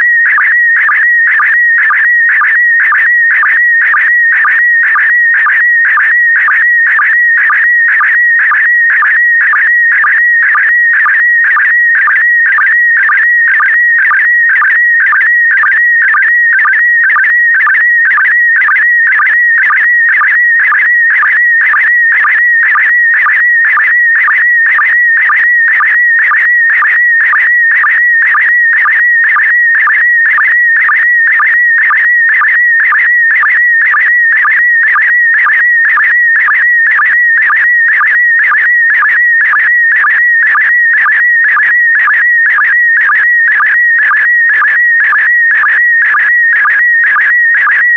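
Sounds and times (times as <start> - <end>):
warbling sstv signal tone: 0.0 - 47.9.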